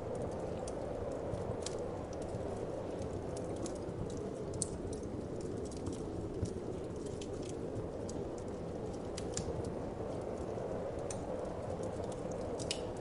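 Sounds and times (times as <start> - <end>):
wood fire crackling: 0.0 - 13.0
sharp pops and snaps: 0.2 - 9.8, 11.8 - 13.0.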